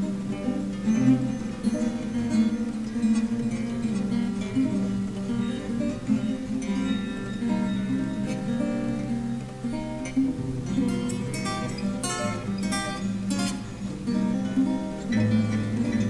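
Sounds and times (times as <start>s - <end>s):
acoustic guitar strummed and plucked: 0.0s - 16.0s.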